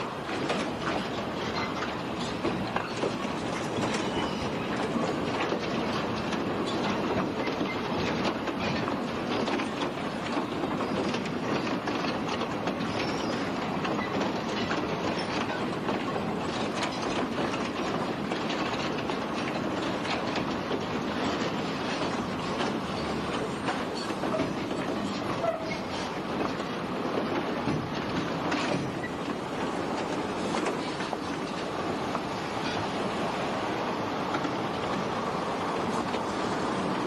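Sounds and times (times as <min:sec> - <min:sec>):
freight wagons rumbling on track: 0:00.0 - 0:37.0
wheels clicking over rails: 0:00.0 - 0:37.0.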